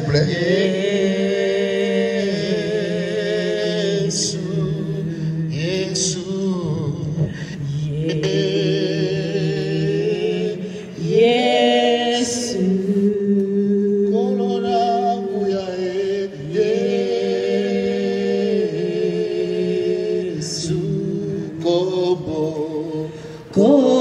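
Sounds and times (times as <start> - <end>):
voices singing a hymn: 0.0 - 24.0.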